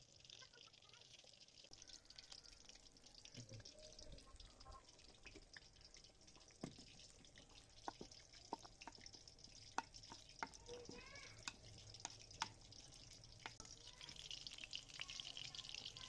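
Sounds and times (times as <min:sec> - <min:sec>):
faint sizzle of frying: 0:00.0 - 0:16.0.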